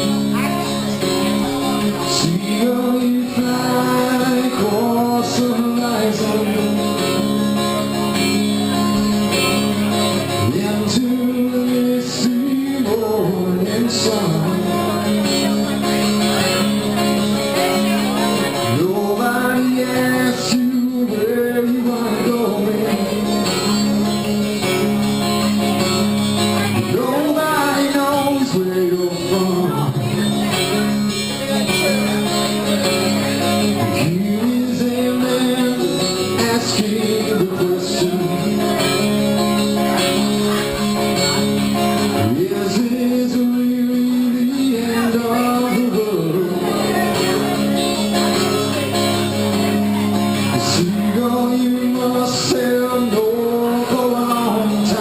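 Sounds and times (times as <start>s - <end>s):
acoustic guitar: 0.0s - 55.0s
man singing: 0.0s - 55.0s.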